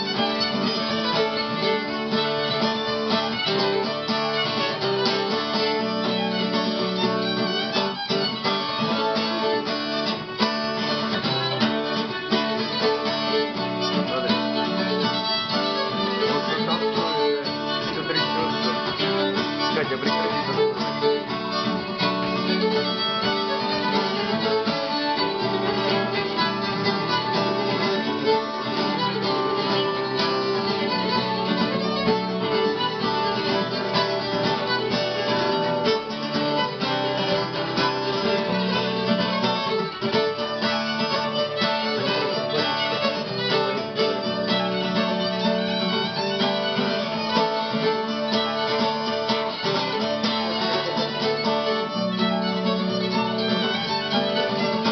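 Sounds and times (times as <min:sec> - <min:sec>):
fiddle playing a reel: 0:00.0 - 0:54.9
guitar accompaniment: 0:00.0 - 0:54.9.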